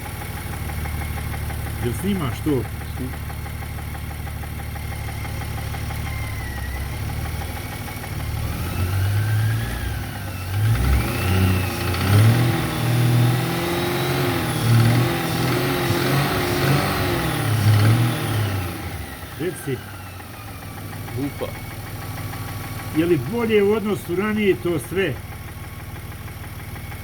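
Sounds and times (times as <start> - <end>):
engine idling and revving: 0.0 - 27.0.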